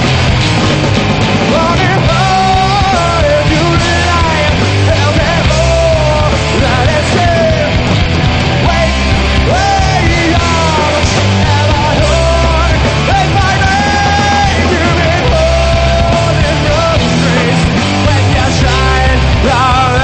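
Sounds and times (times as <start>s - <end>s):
punk rock band playing: 0.0s - 20.0s.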